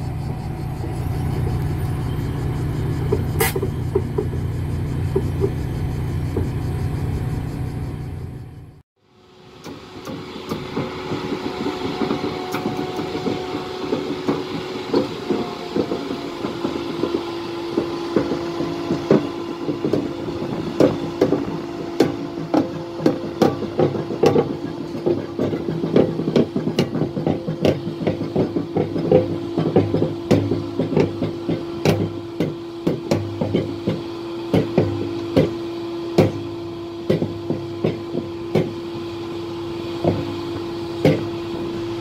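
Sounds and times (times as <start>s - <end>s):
train wheels knocking over rail joints: 0.0s - 7.2s, 9.4s - 42.0s
locomotive engine hum: 0.0s - 42.0s.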